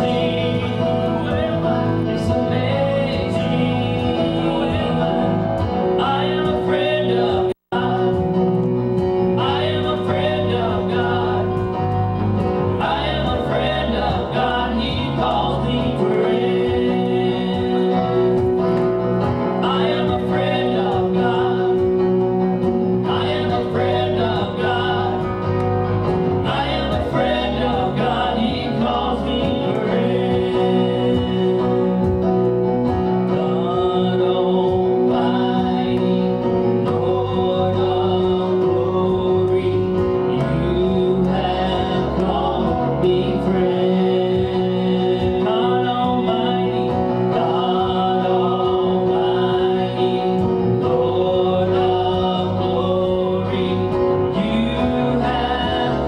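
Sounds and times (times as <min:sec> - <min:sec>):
gospel singing with instruments: 0:00.0 - 0:56.0.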